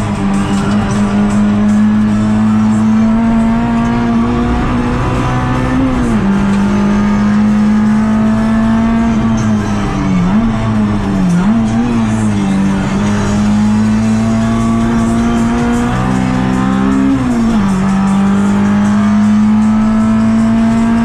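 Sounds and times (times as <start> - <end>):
car engine revving high: 0.0 - 21.0
music: 0.0 - 21.0.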